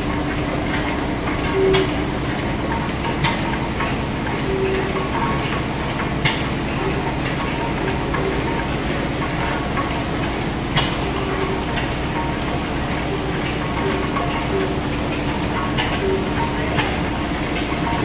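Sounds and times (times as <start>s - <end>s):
steam engines clattering: 0.0s - 18.0s.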